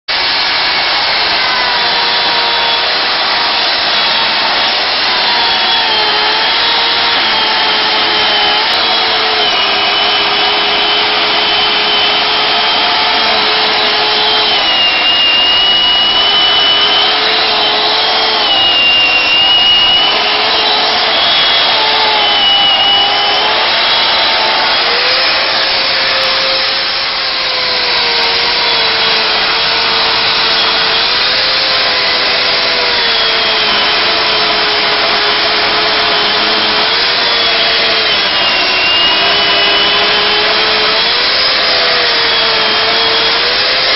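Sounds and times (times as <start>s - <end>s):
chainsaw cutting wood: 0.1s - 43.9s.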